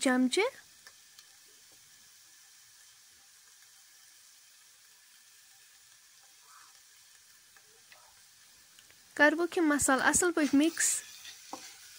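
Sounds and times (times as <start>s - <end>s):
spinach sizzling in oil: 0.0s - 11.9s.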